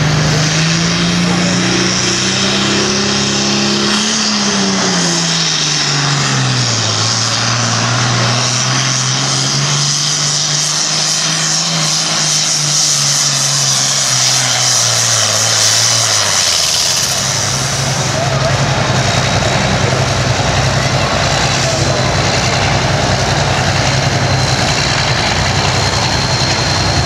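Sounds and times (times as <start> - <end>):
diesel tractor engine under load: 0.0 - 27.0
loud high rushing noise: 0.0 - 27.0.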